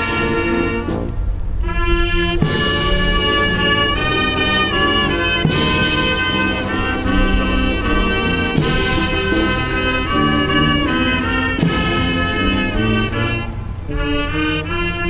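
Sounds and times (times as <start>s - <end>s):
brass band playing: 0.0s - 15.0s.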